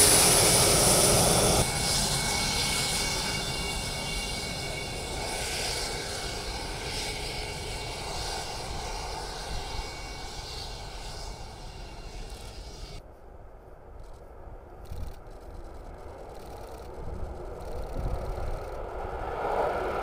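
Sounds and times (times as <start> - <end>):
jet engines with turbine whine: 0.0 - 13.0, 13.9 - 20.0.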